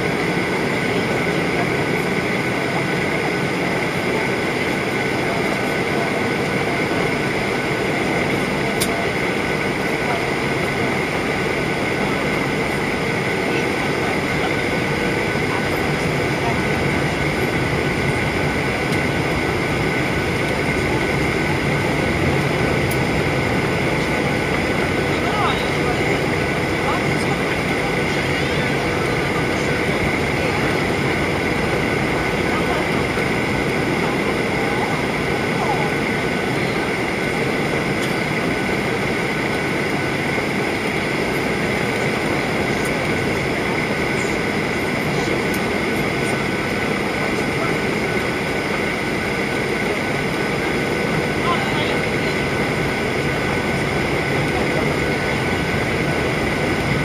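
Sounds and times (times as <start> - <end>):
airplane cabin rumble: 0.0 - 57.0
jet engine roar: 0.0 - 57.0.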